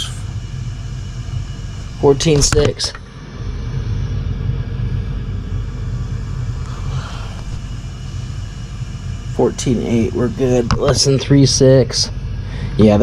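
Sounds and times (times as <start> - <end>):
low pulsing background rumble: 0.0 - 13.0.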